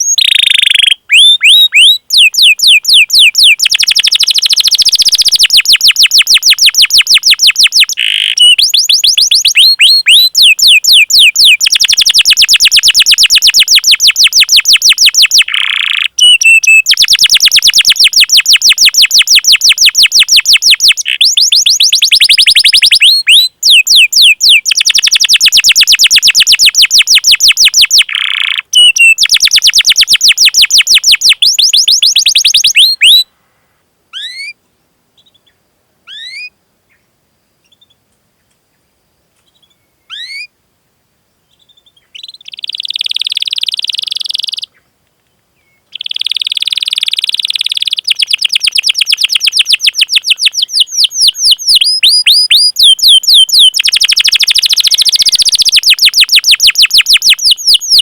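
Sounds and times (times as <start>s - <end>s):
canary trilling: 0.0s - 33.2s, 42.2s - 44.7s, 46.0s - 58.0s.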